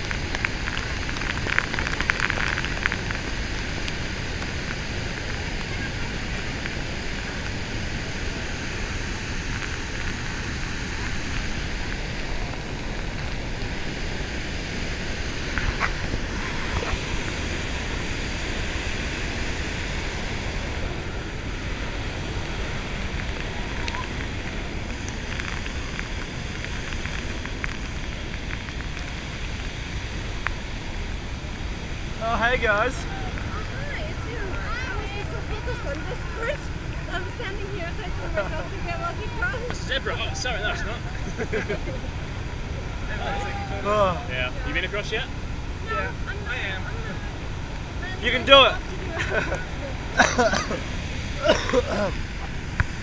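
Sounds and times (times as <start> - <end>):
wind buffeting microphone: 0.0 - 44.7
waterfall roaring: 0.0 - 53.0.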